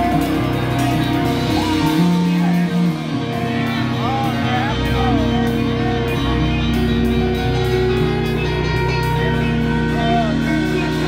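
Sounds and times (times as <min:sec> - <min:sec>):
rock band playing live: 0:00.0 - 0:11.0
steady drum beat: 0:00.0 - 0:11.0
sustained bass notes: 0:00.0 - 0:11.0.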